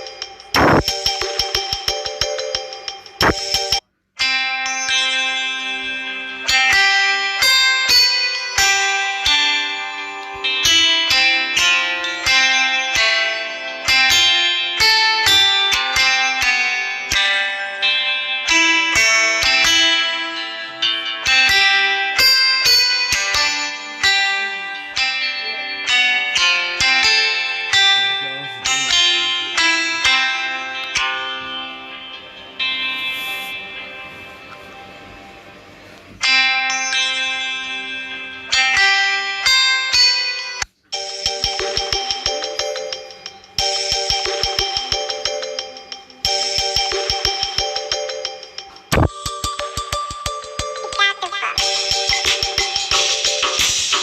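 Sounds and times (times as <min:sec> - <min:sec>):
plucked guitar-like ringtone melody: 0:00.0 - 0:54.0.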